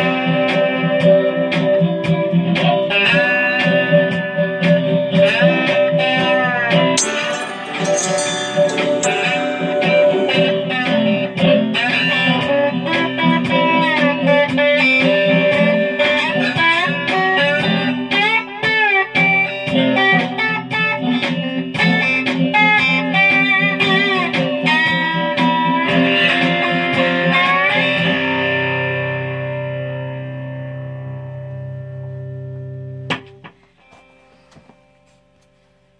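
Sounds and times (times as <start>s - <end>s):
slide guitar: 1.7s - 33.1s.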